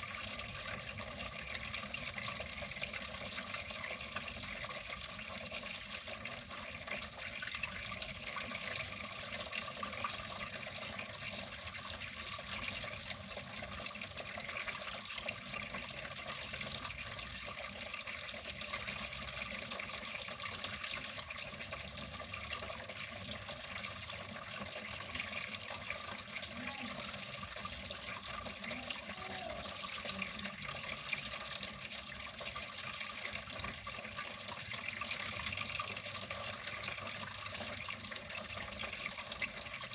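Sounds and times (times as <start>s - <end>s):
water flowing with splashing rush: 0.0s - 39.9s.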